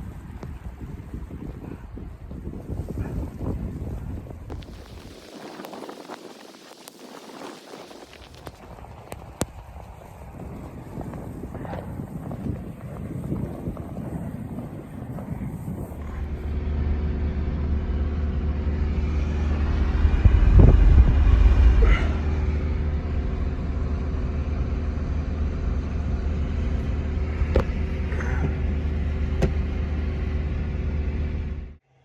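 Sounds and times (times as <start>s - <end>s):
vehicle engine rumble: 0.0s - 31.8s.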